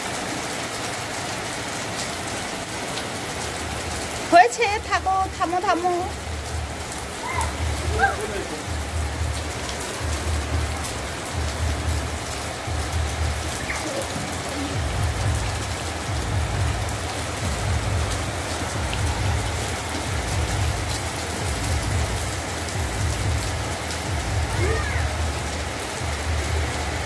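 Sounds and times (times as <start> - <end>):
heavy rain on concrete roof: 0.0 - 27.0.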